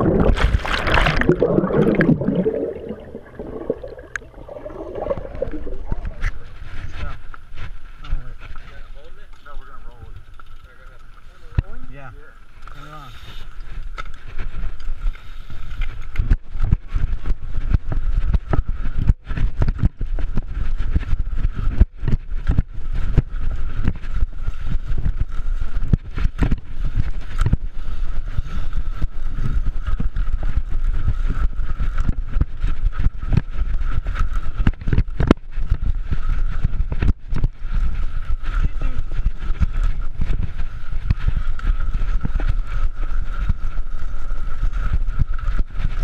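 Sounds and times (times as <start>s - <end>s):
wind and tyres rumbling: 0.0s - 46.0s.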